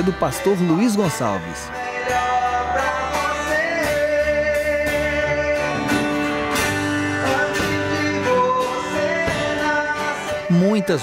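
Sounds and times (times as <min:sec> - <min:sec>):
person singing gospel song: 0:00.0 - 0:06.1, 0:07.1 - 0:11.0
guitar accompaniment: 0:00.0 - 0:11.0.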